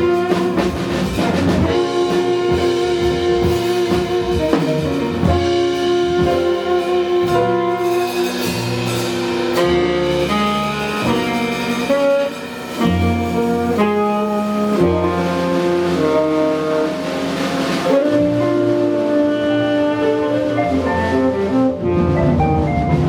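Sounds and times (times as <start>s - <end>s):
jazz band playing: 0.0s - 23.0s
saxophone: 0.0s - 23.0s.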